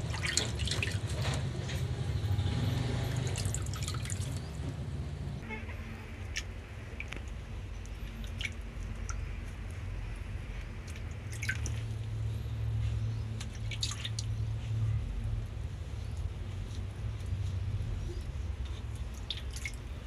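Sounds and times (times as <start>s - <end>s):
water dripping and splashing: 0.0s - 4.8s, 6.0s - 20.0s
low steady rumble: 0.0s - 20.0s.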